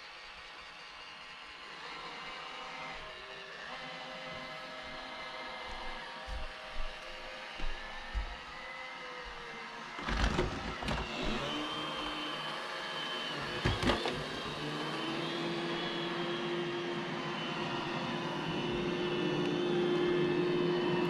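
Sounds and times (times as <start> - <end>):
robot vacuum motor whine: 0.1 - 21.0.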